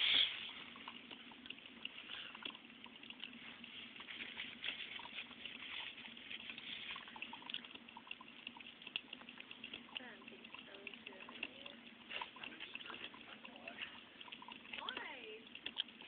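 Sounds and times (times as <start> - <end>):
coffee maker sputtering and gurgling: 0.0 - 16.0.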